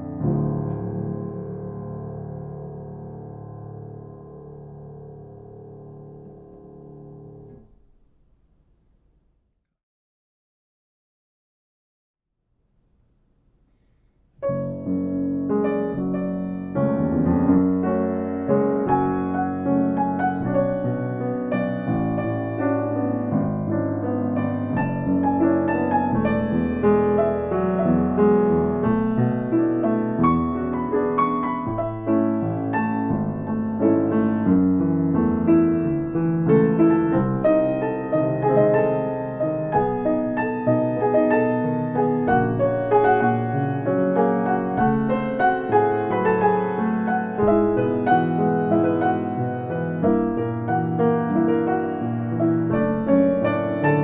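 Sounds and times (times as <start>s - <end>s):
piano music: 0.0s - 8.0s, 14.4s - 54.0s.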